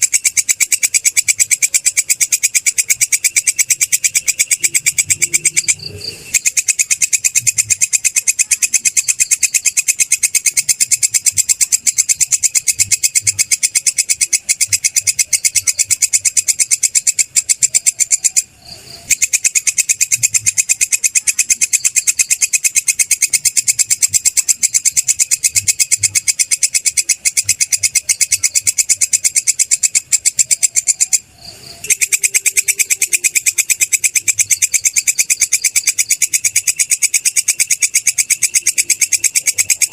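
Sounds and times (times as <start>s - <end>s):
katydid scraping chirps: 0.0s - 39.9s.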